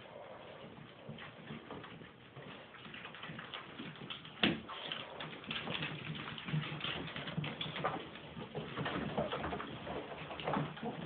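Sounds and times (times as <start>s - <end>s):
puppy claws clicking on wooden floor: 0.7s - 11.0s.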